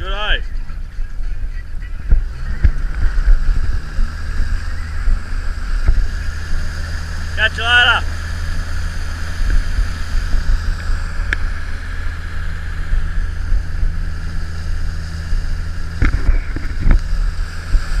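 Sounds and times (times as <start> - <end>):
outboard motor running: 0.0 - 18.0
wind on microphone: 0.0 - 18.0.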